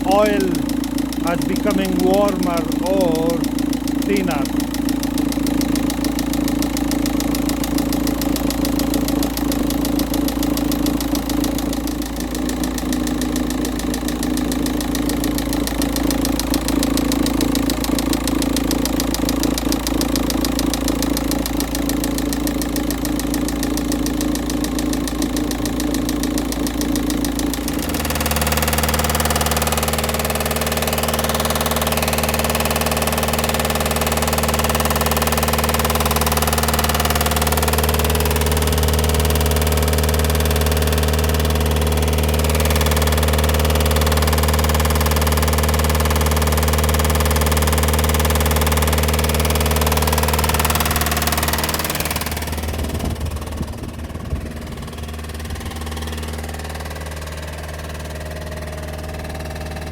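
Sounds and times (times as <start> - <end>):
diesel engine idling: 0.0 - 59.9
heavy engine knocking: 0.0 - 59.9.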